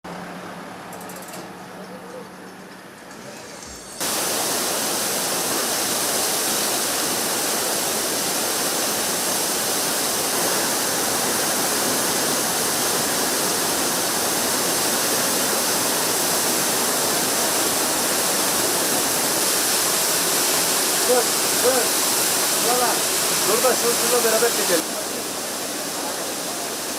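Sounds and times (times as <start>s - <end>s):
waterfall pouring heavily: 4.0s - 26.9s.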